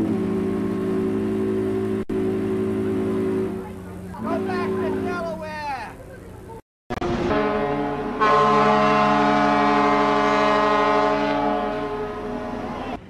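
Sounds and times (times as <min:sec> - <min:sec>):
ship horn blast: 0:00.0 - 0:06.0, 0:06.9 - 0:13.0.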